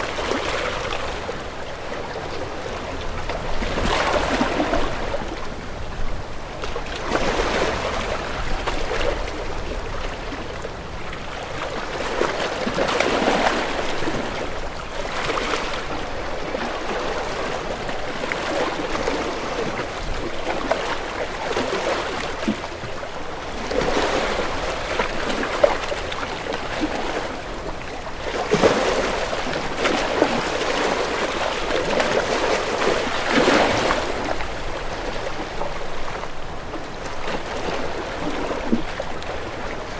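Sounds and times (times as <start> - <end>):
sea waves washing and splashing: 0.0 - 39.9.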